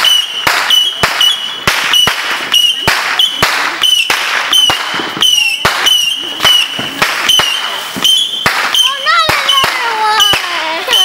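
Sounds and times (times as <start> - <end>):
fireworks cracking bangs: 0.0 - 11.0
high firework whistle: 0.0 - 11.0.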